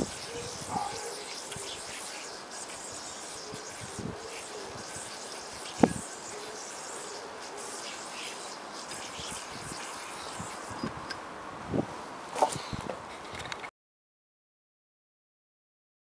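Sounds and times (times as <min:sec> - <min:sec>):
background hiss: 0:00.0 - 0:13.2.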